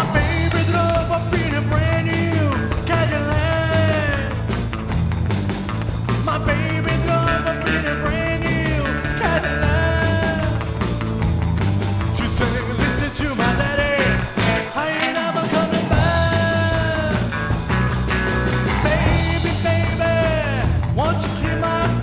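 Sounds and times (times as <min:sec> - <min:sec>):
bass: 0:00.0 - 0:14.9, 0:15.7 - 0:22.0
drums: 0:00.0 - 0:22.0
electric guitar lines: 0:00.0 - 0:22.0.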